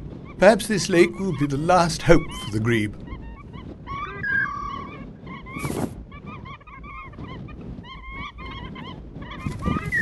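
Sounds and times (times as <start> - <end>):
water birds calling: 0.0 - 10.0.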